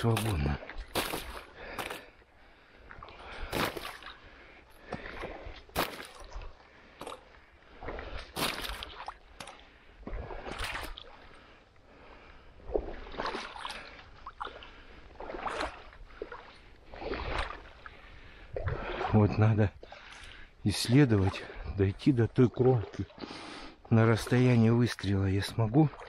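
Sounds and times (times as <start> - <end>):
waders sloshing through shallow water: 0.0 - 26.0.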